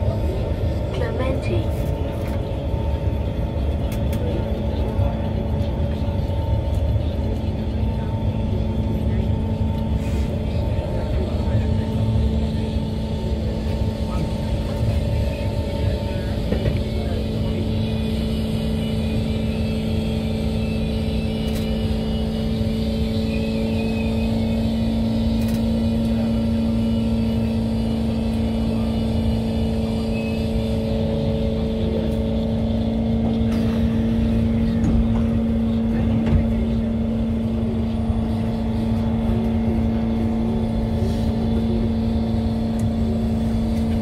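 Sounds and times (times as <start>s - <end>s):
even hum: 0.0s - 44.0s
train wheels rumbling on rail: 0.0s - 44.0s.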